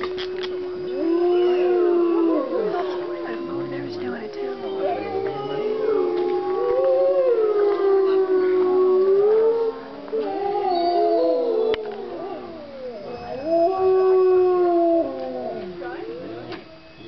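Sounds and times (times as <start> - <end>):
wolves howling in chorus: 0.0 - 17.0.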